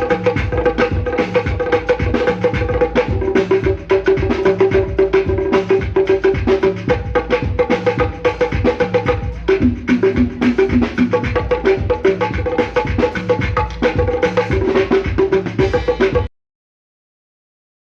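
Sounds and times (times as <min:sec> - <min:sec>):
loud dance music over speakers: 0:00.0 - 0:16.3.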